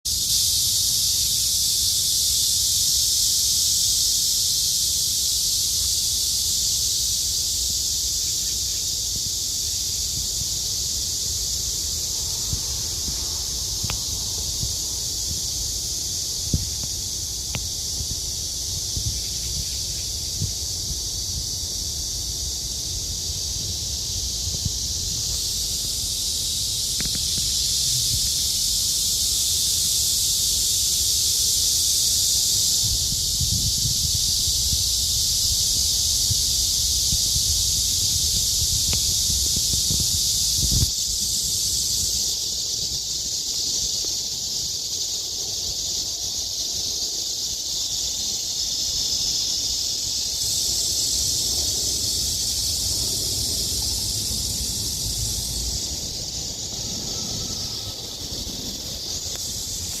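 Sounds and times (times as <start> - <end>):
cicadas buzzing: 0.0 - 60.0.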